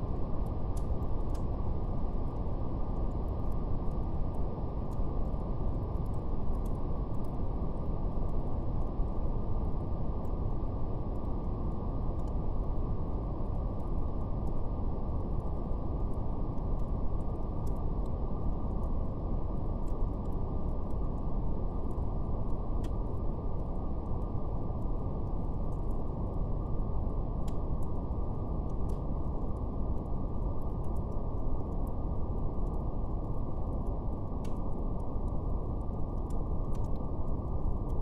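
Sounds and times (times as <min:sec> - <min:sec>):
fire crackling: 0:00.0 - 0:38.0.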